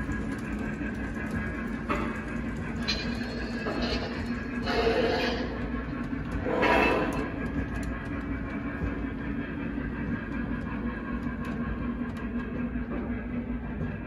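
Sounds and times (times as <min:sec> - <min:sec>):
model train rumbling on track: 0:00.0 - 0:14.0.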